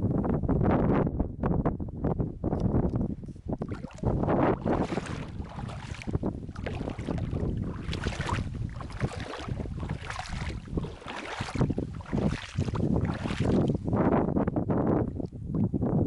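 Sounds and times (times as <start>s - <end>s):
gusty wind on microphone: 0.0s - 16.0s.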